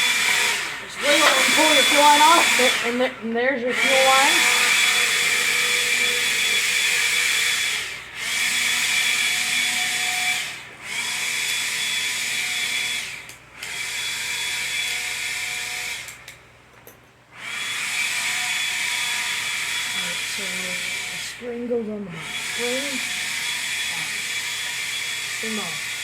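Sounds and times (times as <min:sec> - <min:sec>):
electric power tool whining: 0:00.0 - 0:16.5, 0:17.3 - 0:26.0.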